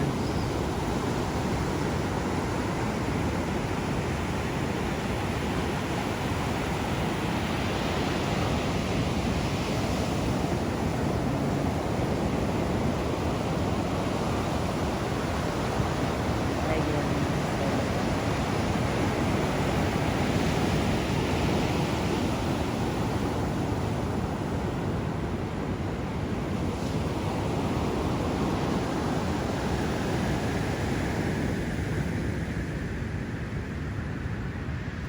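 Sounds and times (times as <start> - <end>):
ocean surf washing on shore: 0.0 - 35.0.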